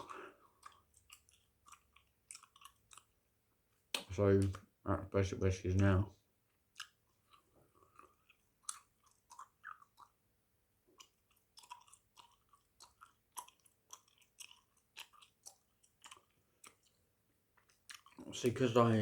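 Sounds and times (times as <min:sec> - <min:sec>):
chewing bubble gum: 0:00.0 - 0:04.7, 0:06.5 - 0:18.4.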